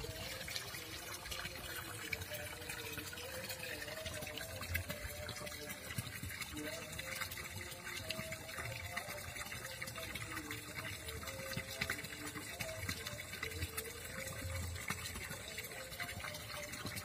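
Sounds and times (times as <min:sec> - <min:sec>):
water trickling in a ditch: 0:00.0 - 0:17.0.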